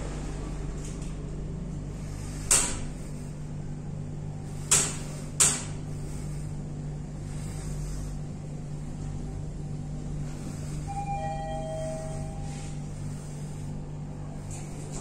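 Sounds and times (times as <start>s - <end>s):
elevator car humming: 0.0s - 15.0s.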